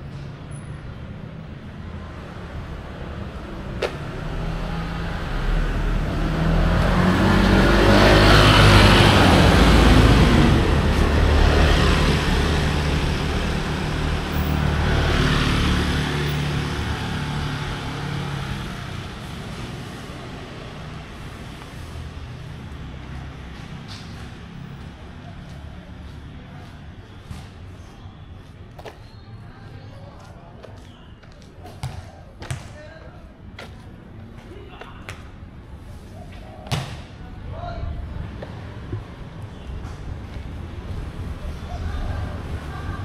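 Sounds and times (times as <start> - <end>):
vehicles passing close by: 0.0 - 43.0.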